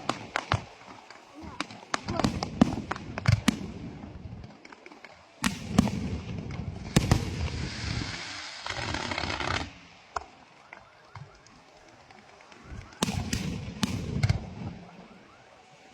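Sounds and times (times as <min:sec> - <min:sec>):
fireworks bangs: 0:00.0 - 0:04.7, 0:05.4 - 0:15.9
faint fireworks pops: 0:00.0 - 0:15.9
fireworks crackling shower: 0:00.0 - 0:15.9.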